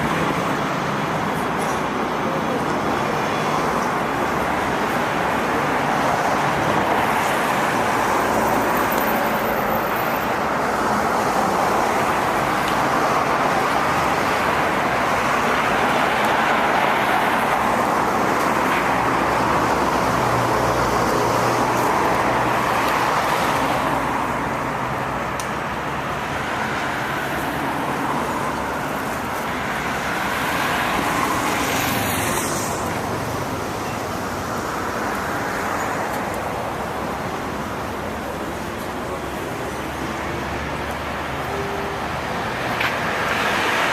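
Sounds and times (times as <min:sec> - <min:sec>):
cars and buses passing: 0:00.0 - 0:43.9.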